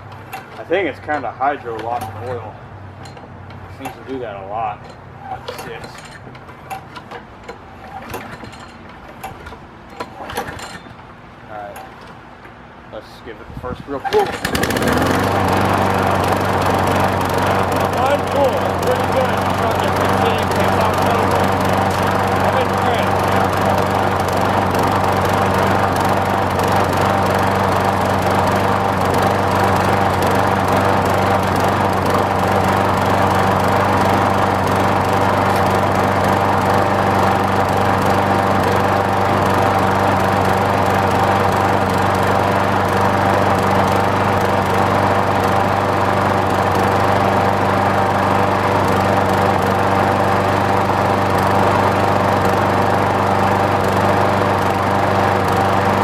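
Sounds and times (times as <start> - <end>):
lawn mower engine running: 0.0 - 12.9, 14.0 - 56.0.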